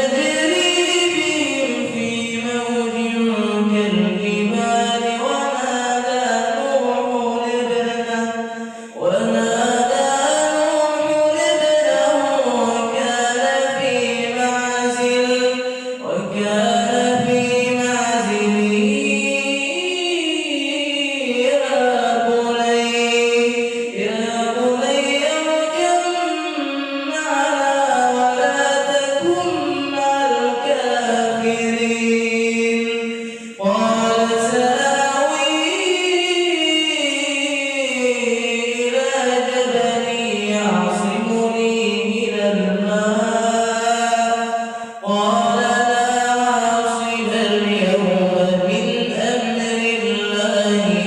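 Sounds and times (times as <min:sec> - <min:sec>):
person chanting melodically: 0:00.0 - 0:51.0.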